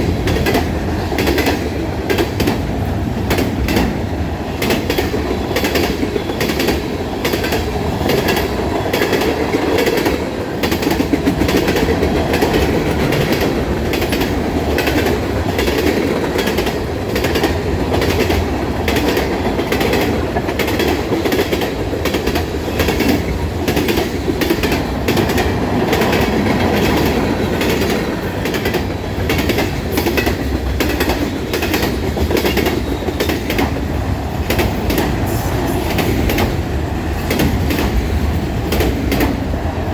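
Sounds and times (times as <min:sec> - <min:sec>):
wheels clicking over rail joints: 0:00.0 - 0:39.5
railroad cars rumbling past: 0:00.0 - 0:39.9.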